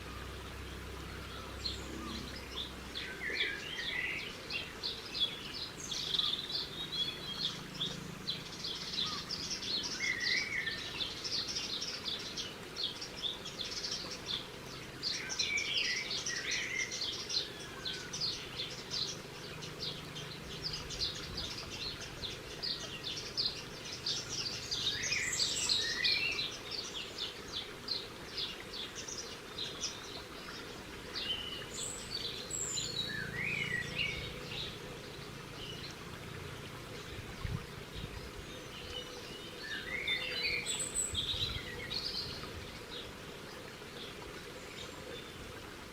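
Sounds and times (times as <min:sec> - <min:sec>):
low background noise: 0:00.0 - 0:45.9
small birds chirping and twittering: 0:00.0 - 0:45.9.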